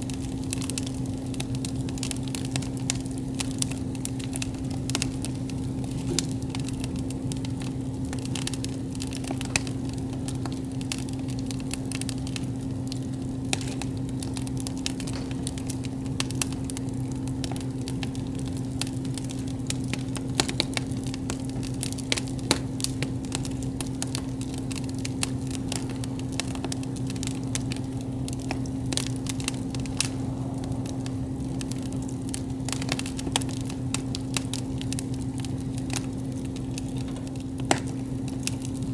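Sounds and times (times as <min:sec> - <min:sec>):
campfire crackling: 0:00.0 - 0:38.9
steady low hum: 0:00.0 - 0:38.9.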